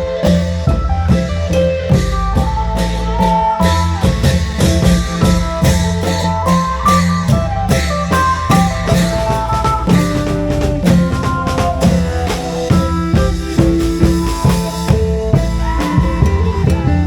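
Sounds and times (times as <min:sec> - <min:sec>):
long-drum band folk music: 0:00.0 - 0:17.0.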